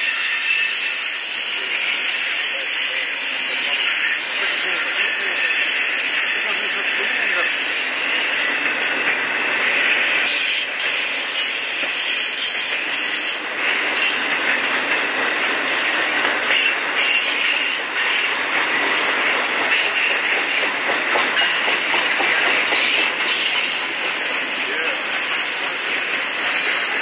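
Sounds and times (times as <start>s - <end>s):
train wheels running on rails: 0.0s - 27.0s.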